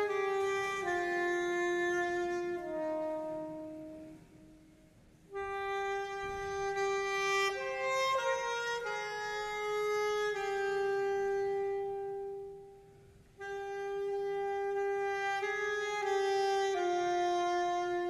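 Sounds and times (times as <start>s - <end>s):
saxophone playing slow melody: 0.0s - 18.0s.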